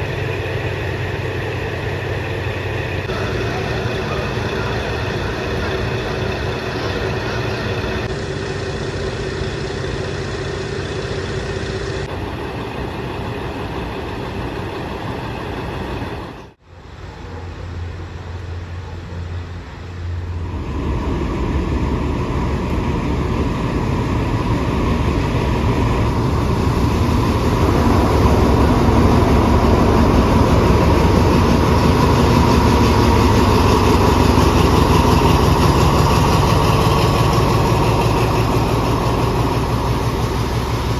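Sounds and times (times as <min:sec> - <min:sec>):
diesel train engine humming: 0:00.0 - 0:40.9.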